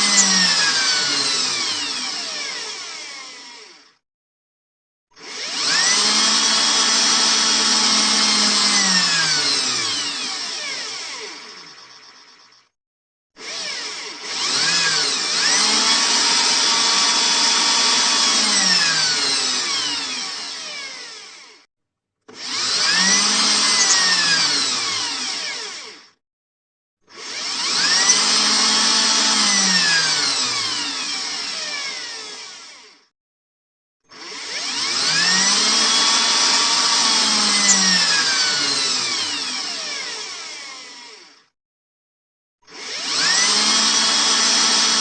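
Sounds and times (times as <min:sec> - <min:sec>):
electric drill whining: 0:00.0 - 0:04.0, 0:05.2 - 0:12.7, 0:13.4 - 0:21.7, 0:22.3 - 0:26.2, 0:27.1 - 0:33.1, 0:34.1 - 0:41.5, 0:42.7 - 0:45.0.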